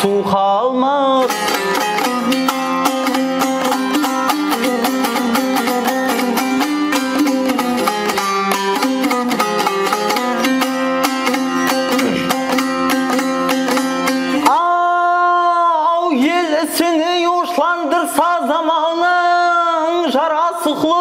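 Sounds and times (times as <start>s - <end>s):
lute strumming: 0.0s - 21.0s.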